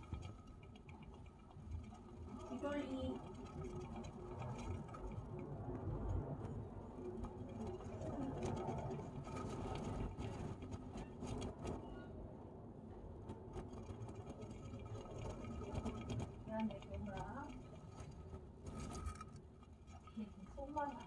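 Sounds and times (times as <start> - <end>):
light clicks and rattles: 0.0 - 12.1, 13.0 - 21.0
plastic hamster wheel spinning: 0.0 - 12.3, 13.1 - 21.0.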